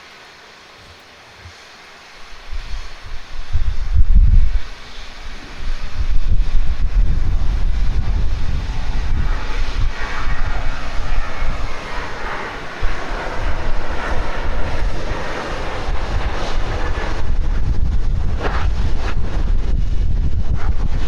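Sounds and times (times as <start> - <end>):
airliner engine noise: 0.0 - 21.0
wind rumble on microphone: 2.3 - 21.0.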